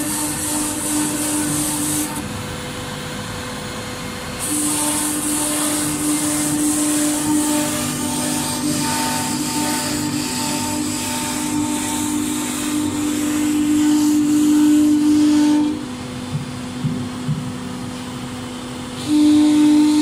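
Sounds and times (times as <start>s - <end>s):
router spindle whine: 0.0s - 20.0s.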